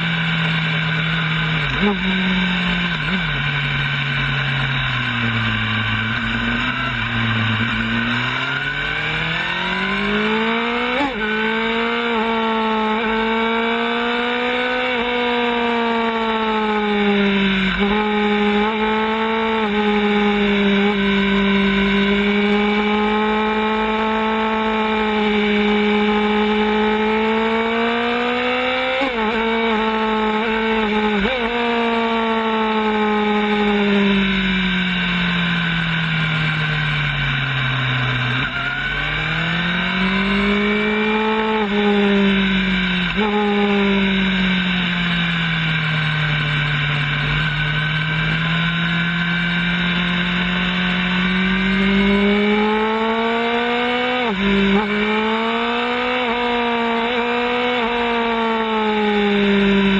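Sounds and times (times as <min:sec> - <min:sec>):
motorbike engine at high revs: 0:00.0 - 0:59.9.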